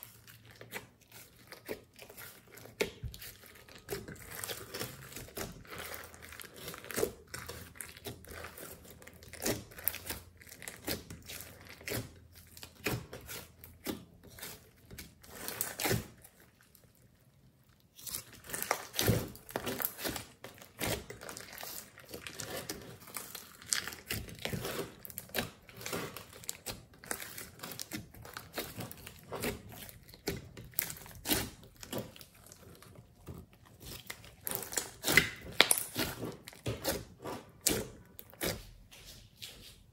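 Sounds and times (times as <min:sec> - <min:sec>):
hands kneading sticky slime: 0:00.0 - 0:39.9.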